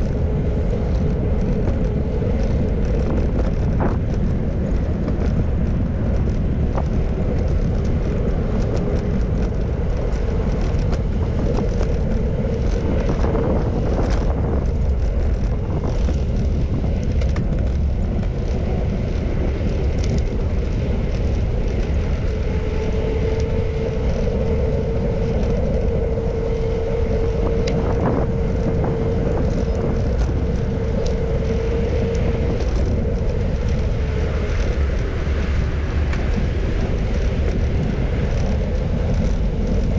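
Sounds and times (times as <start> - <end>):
road and traffic noise: 0.0 - 39.9
wind on microphone: 0.0 - 39.9.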